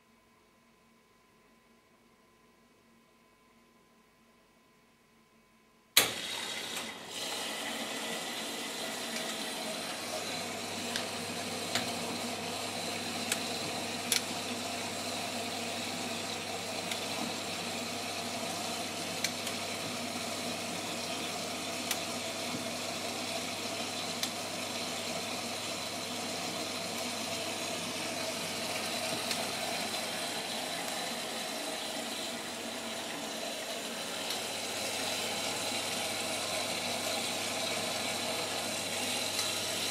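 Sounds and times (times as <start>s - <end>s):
water running into machine: 6.0s - 39.9s.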